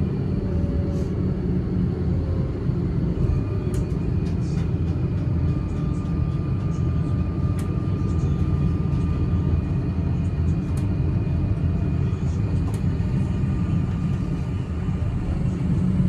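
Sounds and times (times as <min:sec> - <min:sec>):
electric train rumble: 0:00.0 - 0:16.0.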